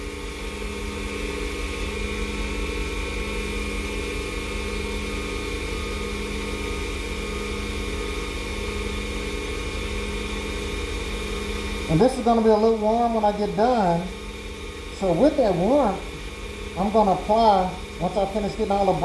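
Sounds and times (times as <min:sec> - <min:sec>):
wood lathe motor running: 0:00.0 - 0:19.0.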